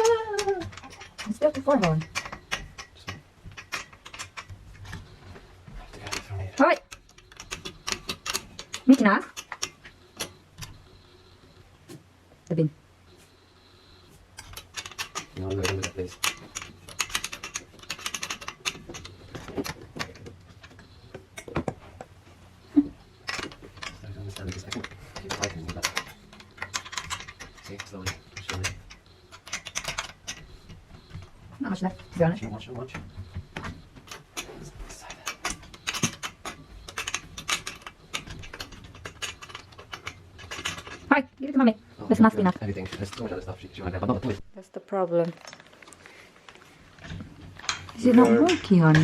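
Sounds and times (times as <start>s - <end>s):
small hard parts clicking: 0.0s - 11.6s, 13.6s - 49.0s.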